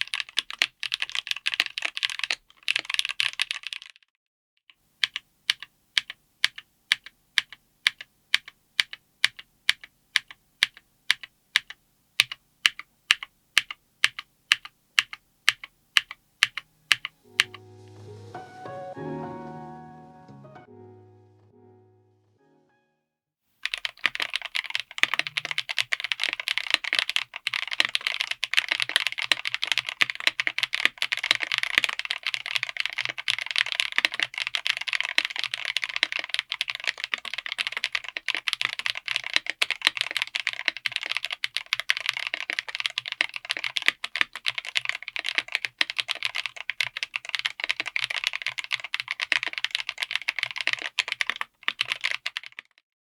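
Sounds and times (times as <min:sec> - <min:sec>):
mechanical keyboard typing: 0:00.0 - 0:04.0, 0:05.0 - 0:17.6, 0:23.6 - 0:52.8.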